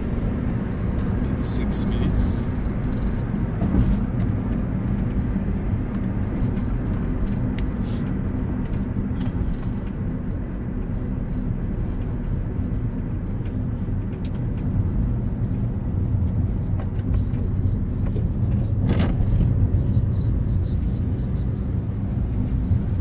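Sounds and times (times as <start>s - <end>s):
car engine and tyre noise: 0.0s - 23.0s.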